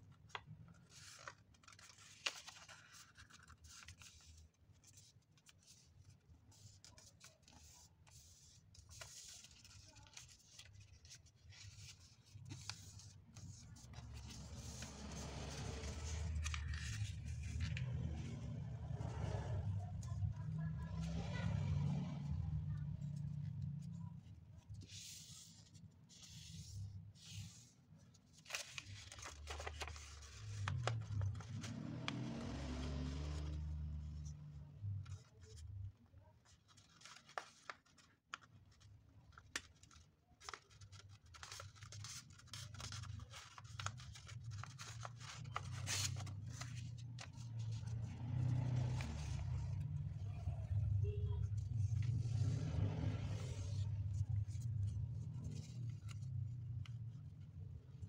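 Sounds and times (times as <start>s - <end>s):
crisp paper crease clicks: 0.1s - 18.5s, 22.7s - 58.0s
paper rustling and sliding: 0.1s - 35.8s, 39.4s - 58.0s.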